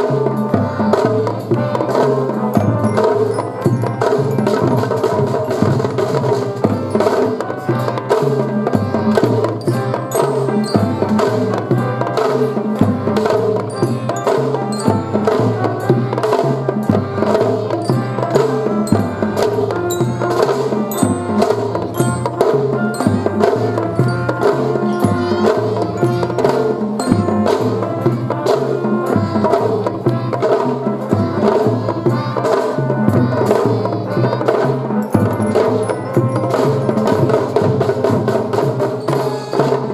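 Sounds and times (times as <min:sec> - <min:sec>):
drums beating steady rhythm: 0:00.0 - 0:39.9
fife melody: 0:00.0 - 0:39.9.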